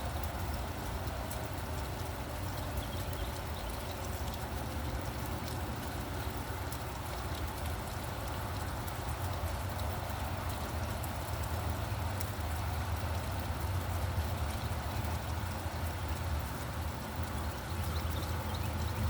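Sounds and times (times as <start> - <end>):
low rumble of traffic: 0.0 - 19.0
rain falling: 0.0 - 19.0.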